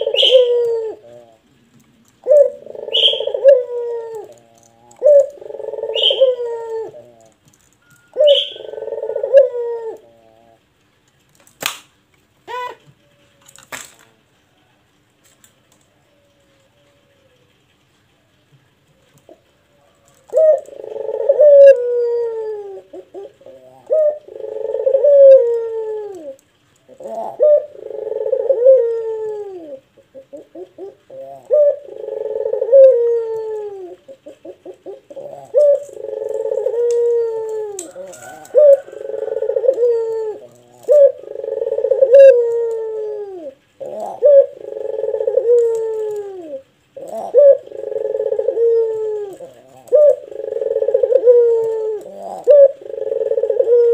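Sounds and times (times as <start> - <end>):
dove cooing: 0.0 - 11.0, 12.4 - 53.9.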